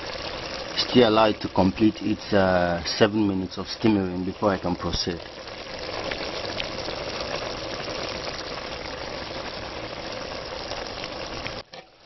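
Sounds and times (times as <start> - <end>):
soup bubbling in pot: 0.0 - 12.0.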